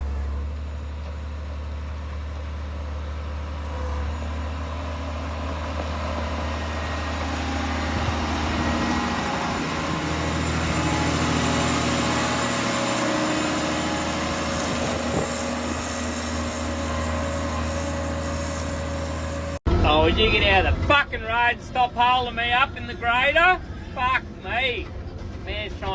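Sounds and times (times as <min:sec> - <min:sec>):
grader engine droning: 0:00.0 - 0:25.9.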